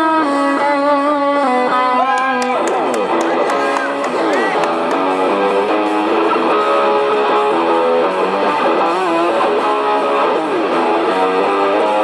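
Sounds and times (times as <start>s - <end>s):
electric guitar lead melody: 0.0s - 12.0s.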